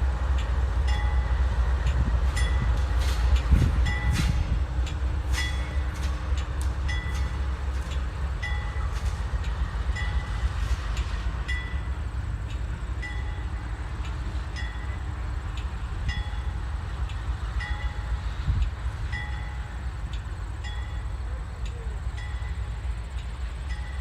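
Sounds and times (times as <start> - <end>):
train rumbling by: 0.0 - 24.0.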